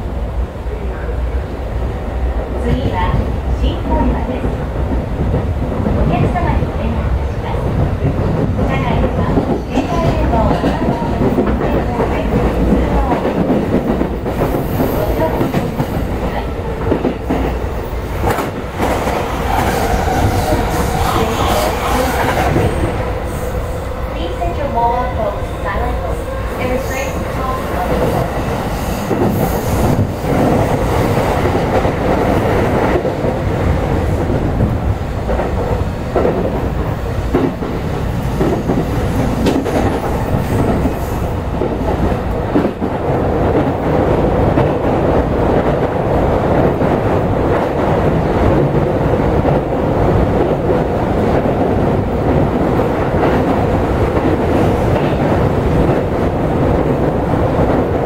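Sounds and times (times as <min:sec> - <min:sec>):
electric train hum: 0:00.0 - 0:58.0
train wheels rumbling on rails: 0:00.0 - 0:58.0.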